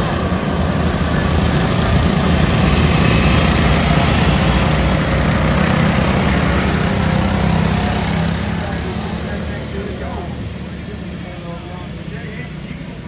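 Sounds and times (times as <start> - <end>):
lawn mower engines racing: 0.0 - 13.0.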